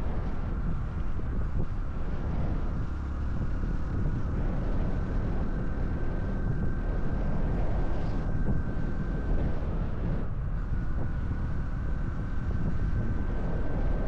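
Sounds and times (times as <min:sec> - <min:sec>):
motorcycle engine and exhaust: 0:00.0 - 0:14.0
wind rumble on microphone: 0:00.0 - 0:14.0.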